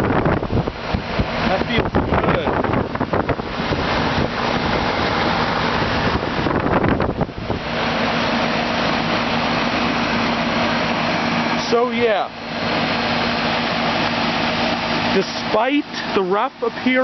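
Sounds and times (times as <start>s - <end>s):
air conditioner fan rushing: 0.0s - 17.0s
steady hum: 0.0s - 17.0s.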